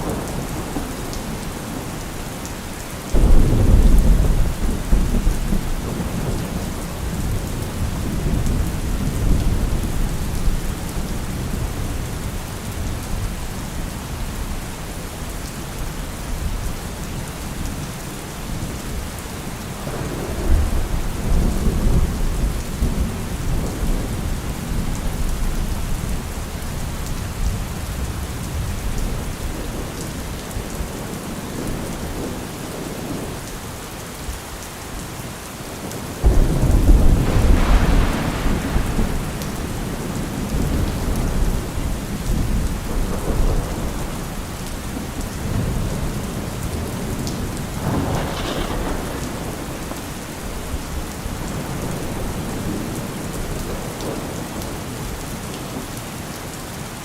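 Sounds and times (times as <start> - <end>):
thunder rumbling: 0.0 - 15.1, 19.6 - 33.3, 36.1 - 55.1
steady rain: 0.0 - 57.0.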